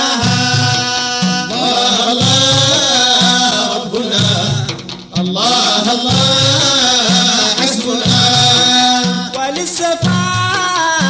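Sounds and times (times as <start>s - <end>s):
low steady drum beat: 0.0s - 11.0s
voices singing praise song: 0.0s - 11.0s.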